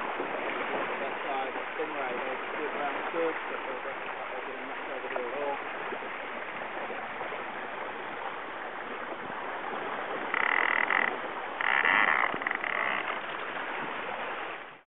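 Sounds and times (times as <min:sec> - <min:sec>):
water rushing: 0:00.0 - 0:14.8
wind: 0:00.0 - 0:14.8.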